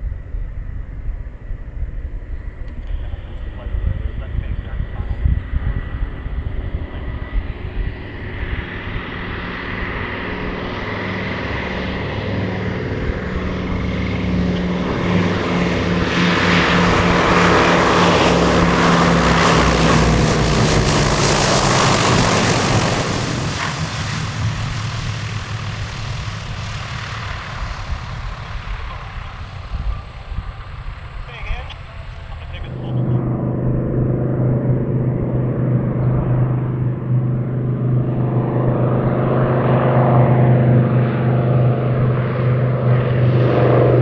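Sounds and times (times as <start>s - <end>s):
propeller plane flyby: 0.0s - 44.0s.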